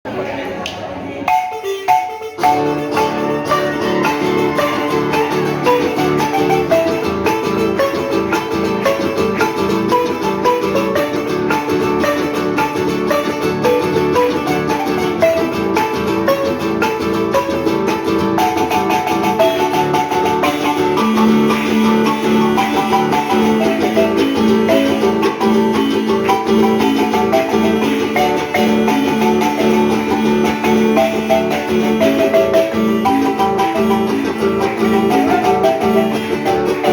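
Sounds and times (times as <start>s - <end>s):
marimba dance tune: 1.3s - 36.9s.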